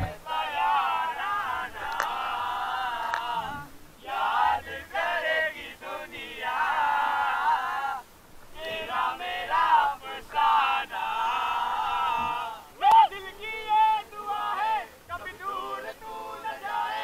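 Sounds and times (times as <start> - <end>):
men singing together: 0.0 - 17.0.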